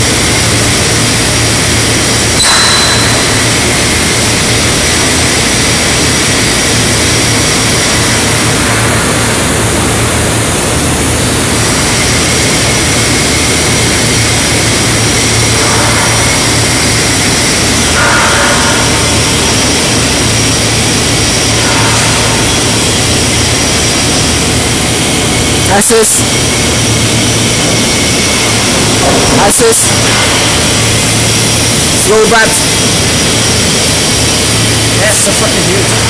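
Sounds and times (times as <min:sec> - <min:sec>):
industrial machinery roar: 0:00.0 - 0:36.0
low hum: 0:00.0 - 0:36.0.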